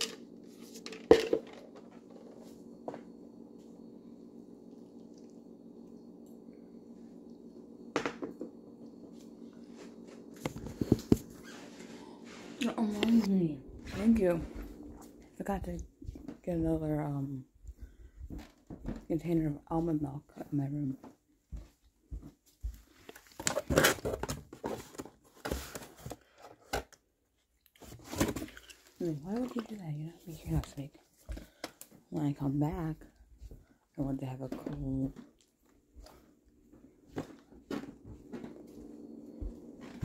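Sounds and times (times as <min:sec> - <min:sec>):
steady low hum: 0:00.0 - 0:23.8, 0:28.2 - 0:40.0.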